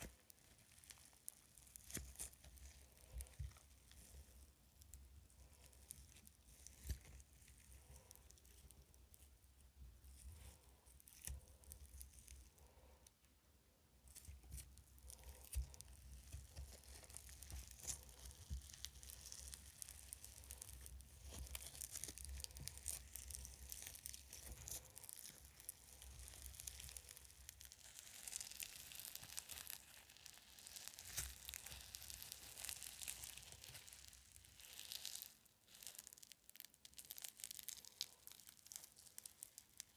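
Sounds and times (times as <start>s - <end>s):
slime crackling and tearing: 0.0s - 9.3s, 10.1s - 12.9s, 14.1s - 39.9s.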